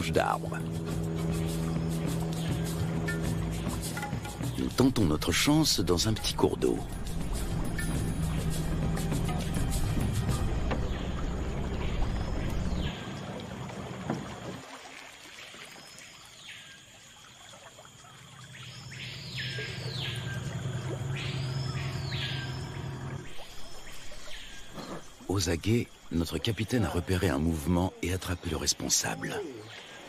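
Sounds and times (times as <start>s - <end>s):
outboard motor humming: 0.0s - 15.8s, 17.9s - 30.0s.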